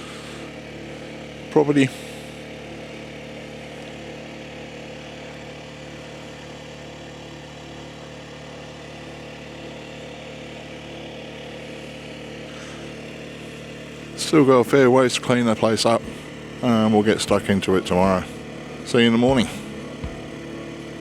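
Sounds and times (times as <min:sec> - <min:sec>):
engine droning steadily: 0:00.0 - 0:21.0.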